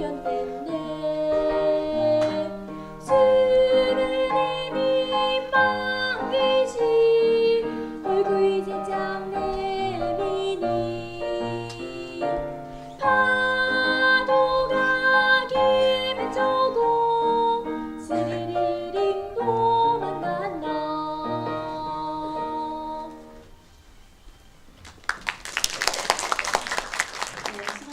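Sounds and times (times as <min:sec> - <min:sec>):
girl singing: 0:00.0 - 0:12.4, 0:13.0 - 0:23.4
piano accompaniment: 0:00.0 - 0:23.5.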